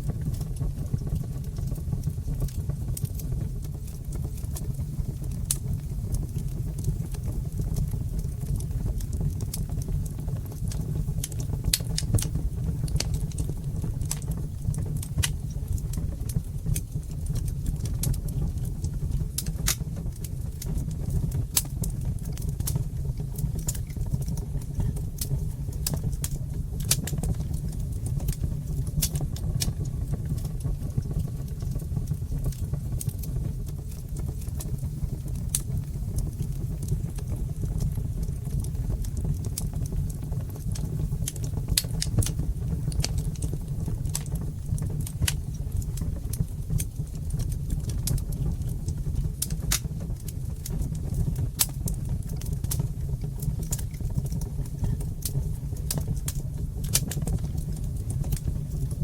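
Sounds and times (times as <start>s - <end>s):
fire crackling and popping: 0.0s - 59.0s
low fire rumble: 0.0s - 59.0s.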